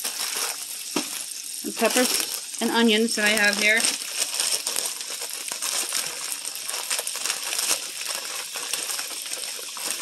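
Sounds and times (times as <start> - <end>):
pork sizzling in a skillet: 0.0 - 10.0.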